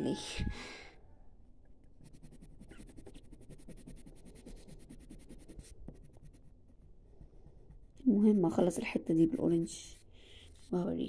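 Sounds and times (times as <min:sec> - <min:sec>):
pencil scratching on paper: 0:02.0 - 0:11.0.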